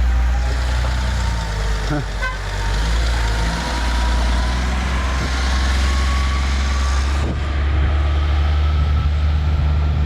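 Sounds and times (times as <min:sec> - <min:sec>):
diesel engine drone: 0:00.0 - 0:10.0.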